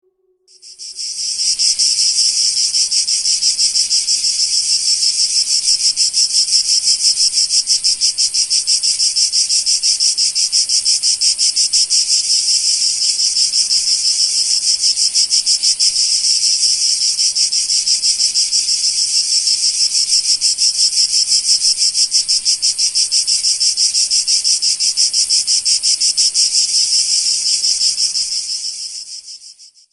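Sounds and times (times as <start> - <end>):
cicada buzzing: 0.5 - 29.6.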